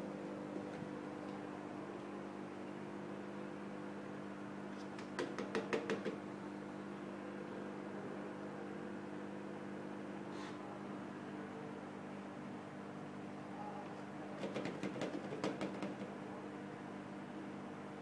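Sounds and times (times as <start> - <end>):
aquarium filter hum: 0.0 - 18.0.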